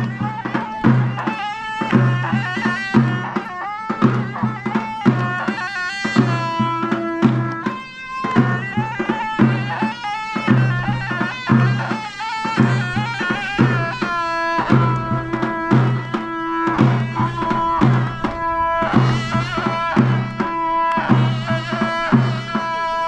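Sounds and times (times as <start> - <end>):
shrill reedy wind instrument: 0.0 - 23.0
steady drum beat: 0.0 - 23.0.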